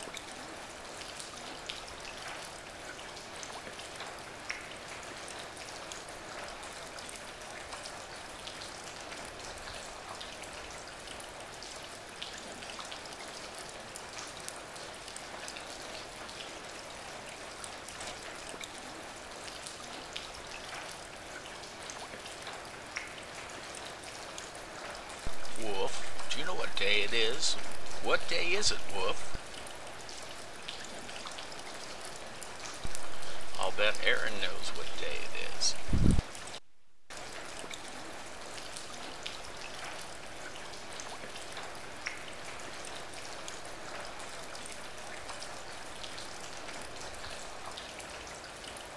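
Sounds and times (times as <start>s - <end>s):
small water drips: 0.0s - 28.0s, 29.0s - 34.9s, 36.0s - 48.9s
pattering water: 0.1s - 48.6s.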